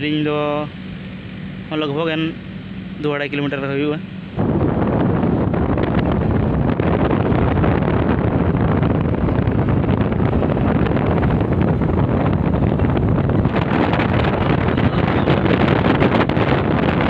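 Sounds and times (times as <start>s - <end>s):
moving vehicle rumble: 0.0s - 17.0s
wind buffeting microphone: 0.0s - 17.0s.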